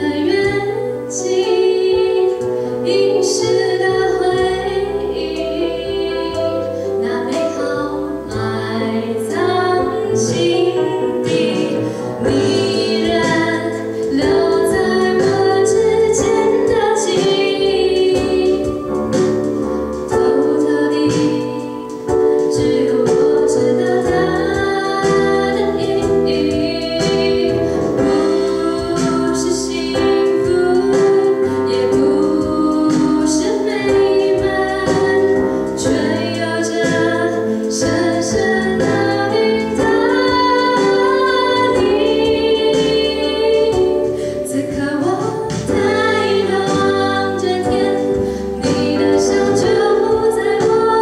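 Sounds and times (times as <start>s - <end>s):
instrumental accompaniment: 0.0s - 51.0s
woman singing pop song: 0.0s - 51.0s.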